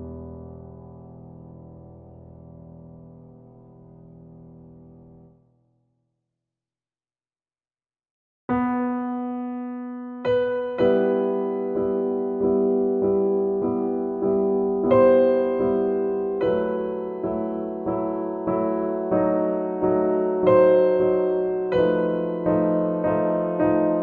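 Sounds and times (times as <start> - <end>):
piano-like keyboard notes and chords: 0.0 - 5.1, 8.5 - 24.0.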